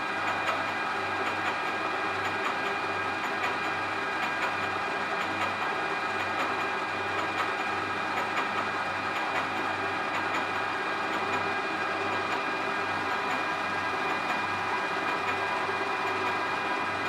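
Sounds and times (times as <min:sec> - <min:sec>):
workshop machine humming: 0:00.0 - 0:17.0.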